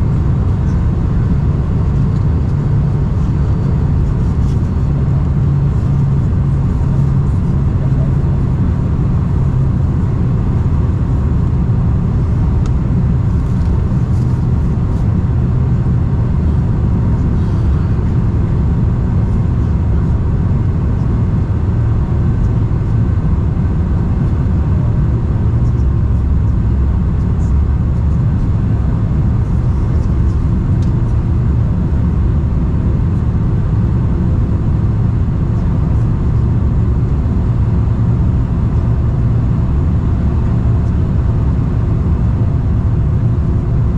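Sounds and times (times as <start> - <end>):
airliner cabin engine roar: 0.0 - 43.9.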